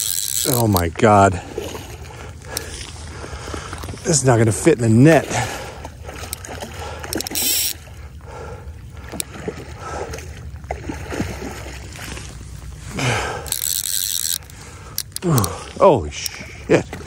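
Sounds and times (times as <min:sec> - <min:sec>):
fish splashing and thrashing in water: 0:00.0 - 0:17.0.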